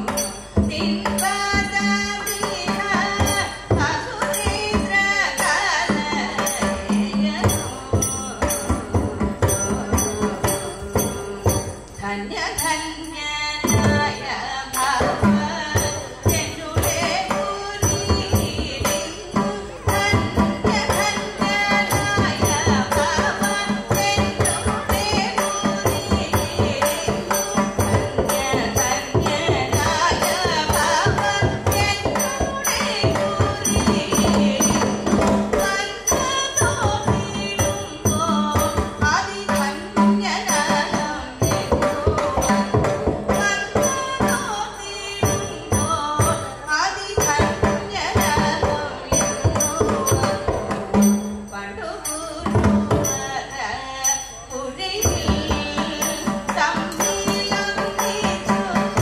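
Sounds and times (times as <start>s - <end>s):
fast rhythmic beat: 0.0s - 12.8s, 13.6s - 59.0s
women singing folk melody: 0.0s - 59.0s.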